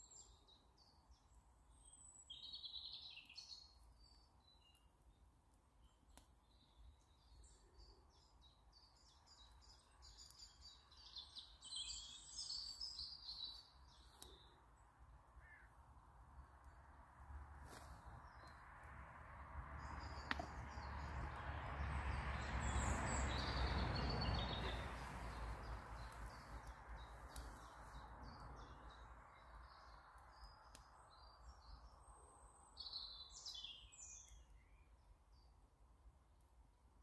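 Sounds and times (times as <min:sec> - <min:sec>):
small birds chirping: 0:00.0 - 0:15.7, 0:19.8 - 0:35.7.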